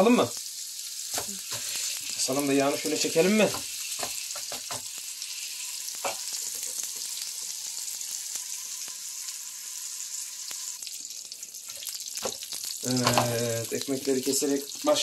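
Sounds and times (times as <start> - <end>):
meatballs sizzling on grill: 0.0 - 15.0.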